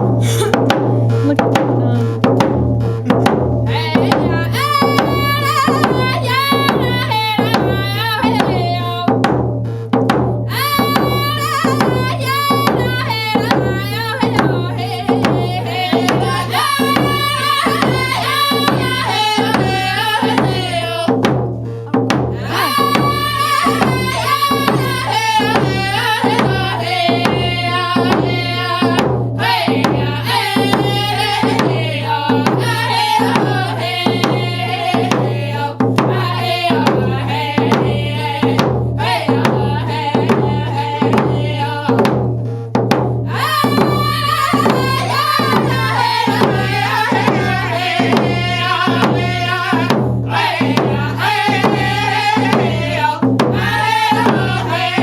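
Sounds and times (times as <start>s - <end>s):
steady drumbeat: 0.0s - 55.0s
voices singing: 2.9s - 9.3s, 10.5s - 42.2s, 43.3s - 55.0s.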